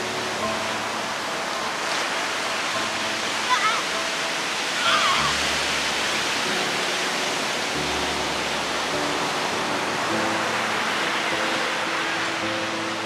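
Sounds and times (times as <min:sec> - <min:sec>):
ocean surf breaking: 0:00.0 - 0:13.0
soft background music: 0:00.0 - 0:13.0.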